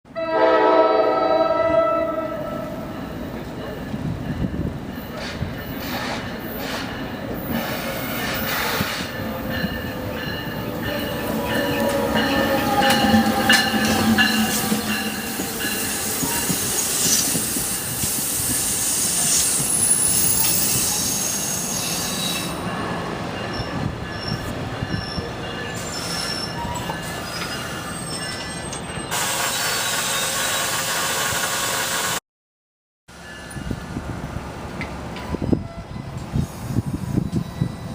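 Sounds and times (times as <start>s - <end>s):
train running past: 0.1s - 32.2s
train wheels squealing: 3.6s - 32.2s, 35.2s - 37.9s.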